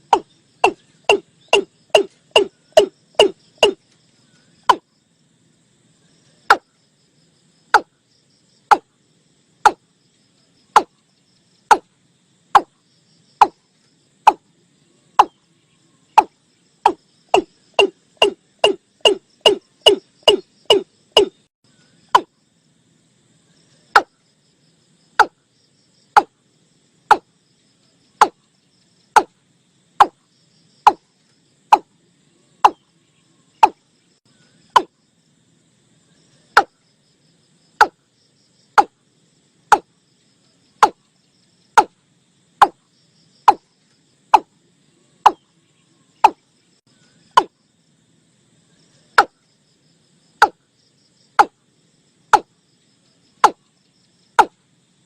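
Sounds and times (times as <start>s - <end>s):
faint steady background noise: 0.0s - 55.0s.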